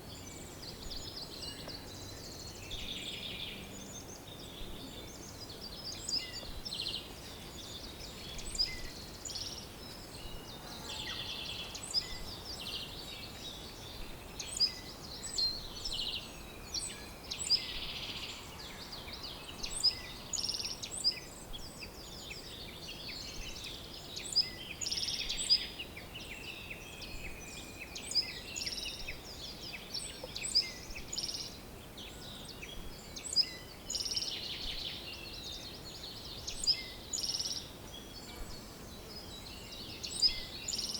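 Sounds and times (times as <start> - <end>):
faint background hiss: 0.0 - 40.9
songbirds chirping and singing: 0.0 - 40.9.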